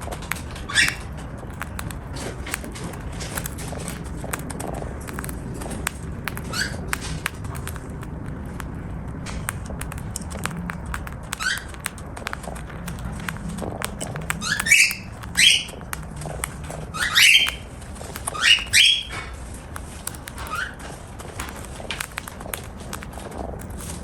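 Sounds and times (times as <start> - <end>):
bird chirping: 0.0 - 8.1, 9.6 - 23.1
bird cracking seed: 0.0 - 24.0.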